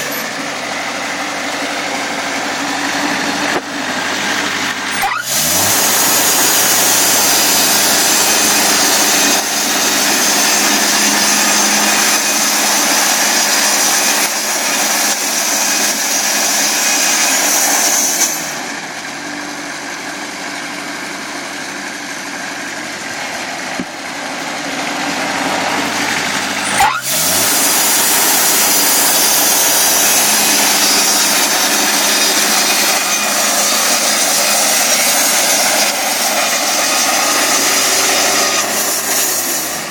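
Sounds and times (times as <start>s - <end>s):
sawmill cutting wood: 0.0s - 39.9s.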